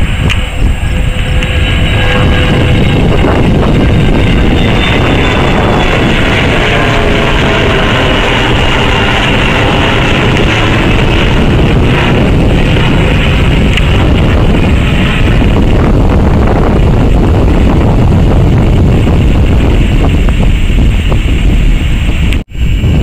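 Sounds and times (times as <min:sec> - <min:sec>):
jet engines roaring overhead: 0:00.0 - 0:23.0
wind buffeting microphone: 0:00.0 - 0:23.0.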